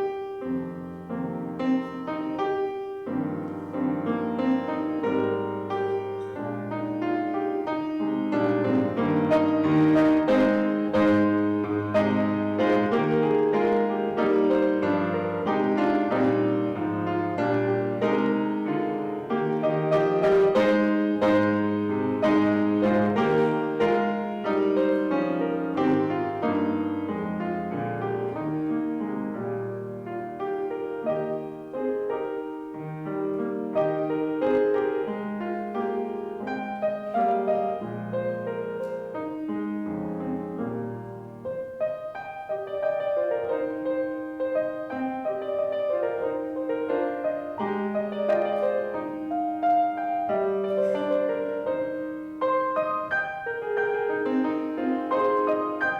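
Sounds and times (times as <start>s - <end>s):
piano playing chords and melody: 0.0s - 55.9s.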